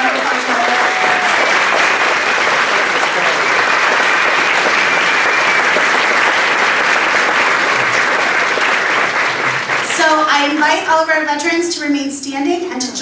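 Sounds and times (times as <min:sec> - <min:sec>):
large audience applauding: 0:00.0 - 0:11.2.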